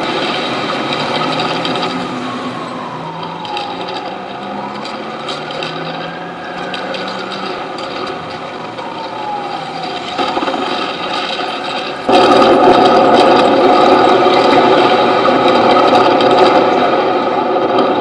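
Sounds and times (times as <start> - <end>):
machine buzzing and grinding: 0.0 - 18.0.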